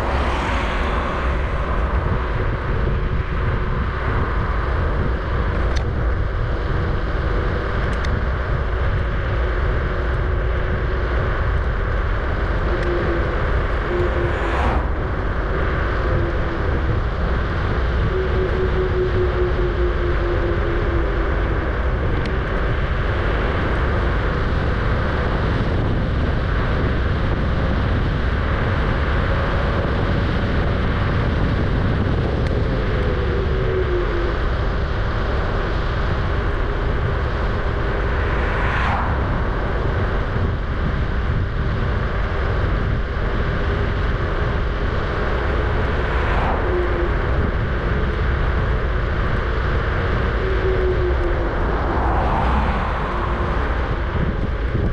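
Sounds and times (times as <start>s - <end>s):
wind and tyre noise: 0.0s - 54.9s.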